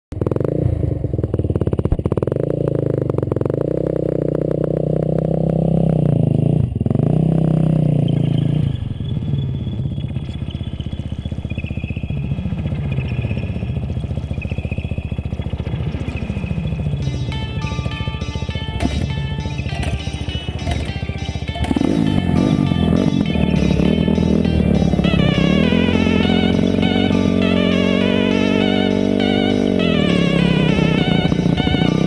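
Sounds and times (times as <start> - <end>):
dirt bike engine revving: 0.2 - 32.0.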